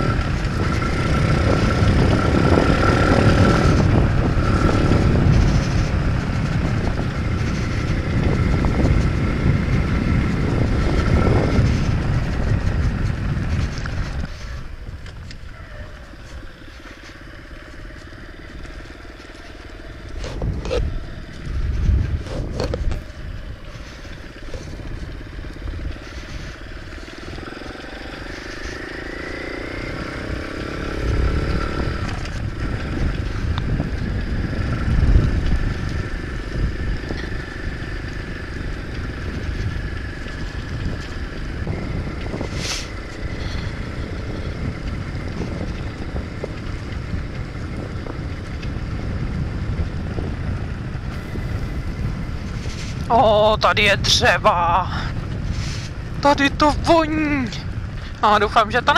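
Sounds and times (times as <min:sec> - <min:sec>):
motorbike engine revving: 0:00.0 - 0:58.9
wind buffeting microphone: 0:00.0 - 0:58.9.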